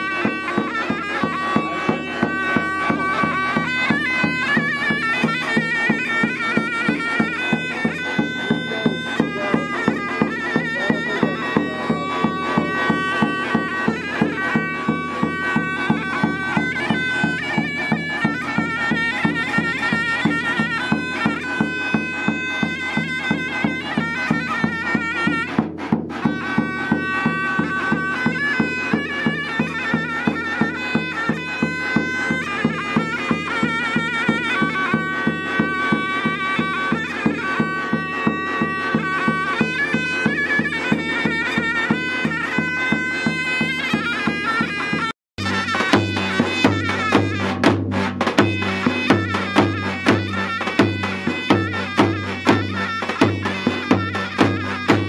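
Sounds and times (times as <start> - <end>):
big drum beat: 0.0 - 55.0
shrill reedy pipe melody: 0.0 - 55.0.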